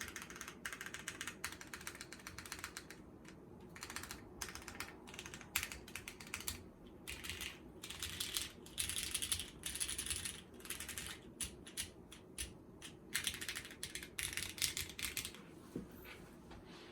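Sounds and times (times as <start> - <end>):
mechanical keyboard typing: 0.0 - 15.4.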